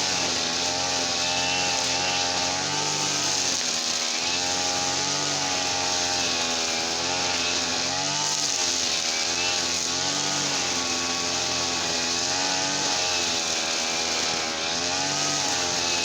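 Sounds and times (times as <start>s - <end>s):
small petrol engine running: 0.0s - 16.0s.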